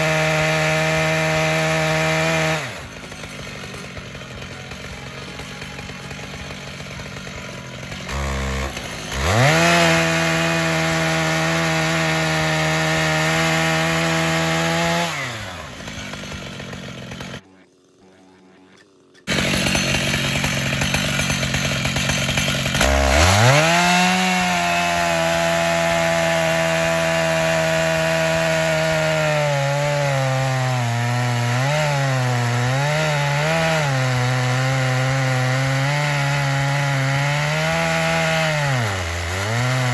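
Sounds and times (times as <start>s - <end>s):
chainsaw cutting through log: 0.0s - 39.9s
chainsaw idling and revving: 0.0s - 39.9s.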